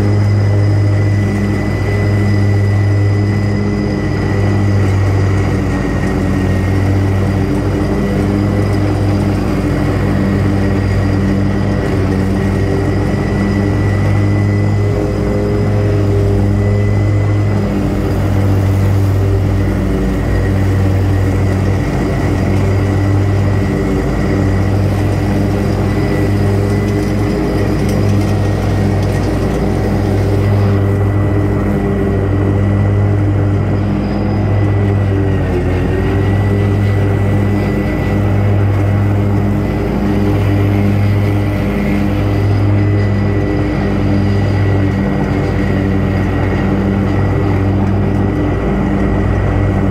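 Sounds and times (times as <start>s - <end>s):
high steady whine: 0.0s - 49.9s
mower engine running: 0.0s - 49.9s.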